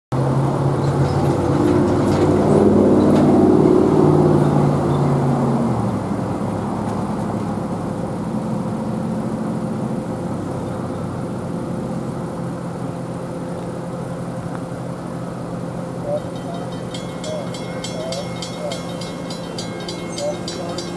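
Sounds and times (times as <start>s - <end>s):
traffic noise with low hum: 0.1s - 20.9s
vehicle engine running close by: 0.2s - 20.9s.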